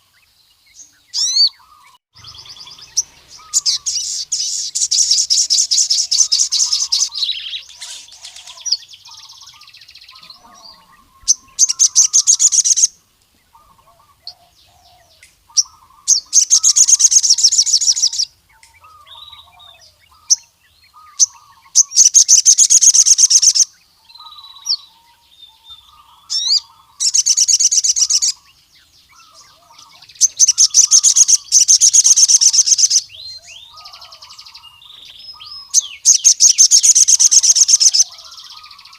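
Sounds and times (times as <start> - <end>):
bird trilling song: 0.0 - 38.9
soft bird chittering: 0.0 - 38.9.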